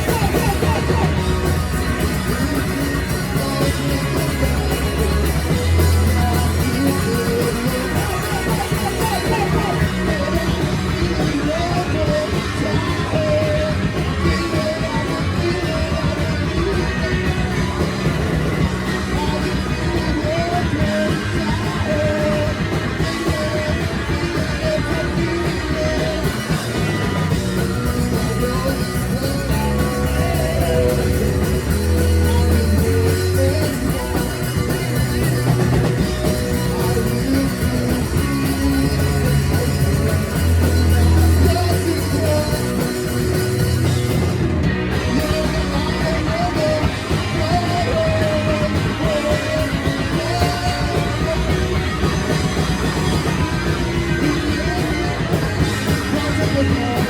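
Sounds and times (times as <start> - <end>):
person singing: 0.0 - 57.0
rock band playing live: 0.0 - 57.0.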